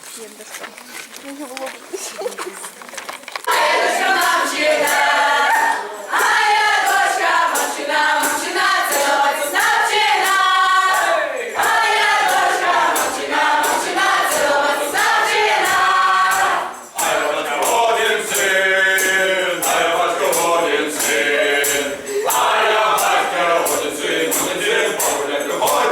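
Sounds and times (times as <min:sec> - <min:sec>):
choir singing: 0:03.5 - 0:25.9.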